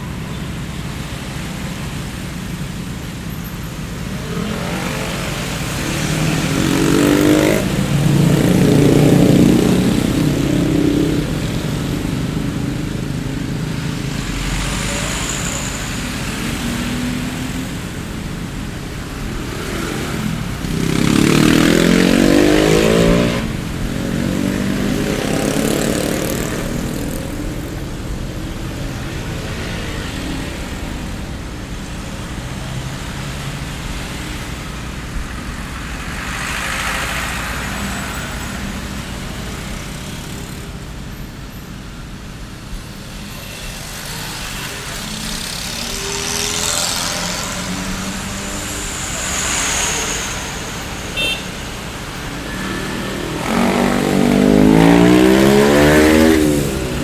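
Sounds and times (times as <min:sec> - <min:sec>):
traffic rumble: 0:00.0 - 0:57.0
vehicles driving past: 0:00.0 - 0:57.0.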